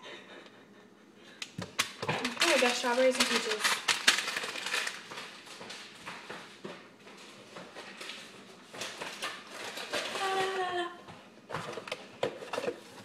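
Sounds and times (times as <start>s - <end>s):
kitchen items knocking and rustling: 1.4s - 13.0s.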